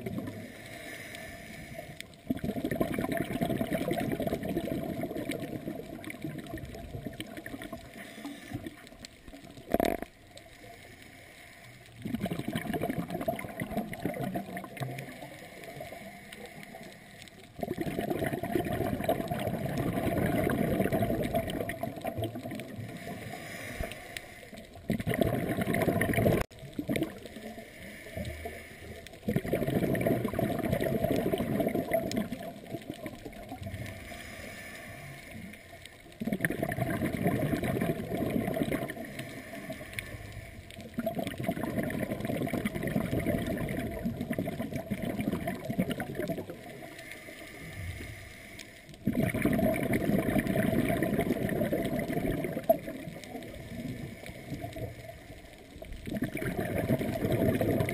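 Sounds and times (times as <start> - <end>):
bubbles gurgling underwater: 0.0 - 0.5, 2.2 - 10.2, 12.0 - 15.9, 17.5 - 24.0, 24.6 - 27.6, 29.1 - 34.0, 36.1 - 47.0, 49.0 - 57.9.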